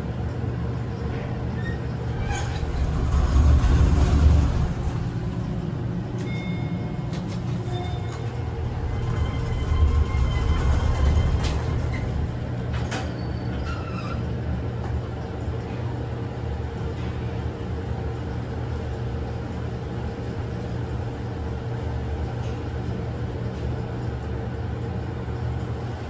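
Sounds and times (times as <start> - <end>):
elevator machine hum: 0.0 - 26.0.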